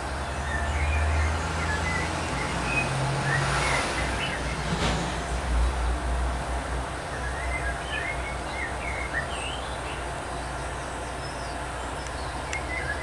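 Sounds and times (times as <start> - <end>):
birds chirping: 0.0 - 6.0, 6.9 - 13.0.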